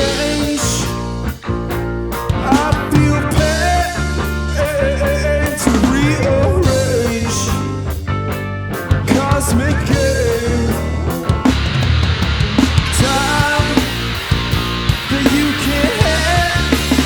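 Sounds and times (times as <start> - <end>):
bending guitar lines: 0.0 - 17.0
rock band playing live: 0.0 - 17.0.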